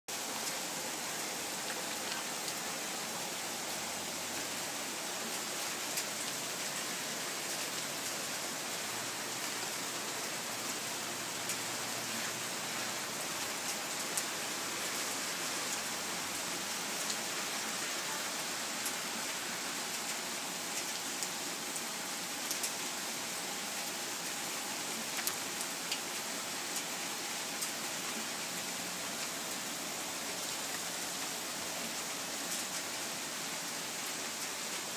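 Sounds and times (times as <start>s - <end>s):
steady rain hiss: 0.1s - 34.9s
raindrops ticking close by: 0.2s - 18.2s, 19.9s - 33.0s.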